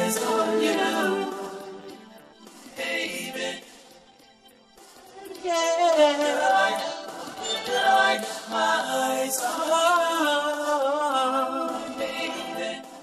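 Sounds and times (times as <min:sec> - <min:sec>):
male vocal group singing harmony: 0:00.0 - 0:02.1, 0:02.7 - 0:04.0, 0:05.3 - 0:13.0.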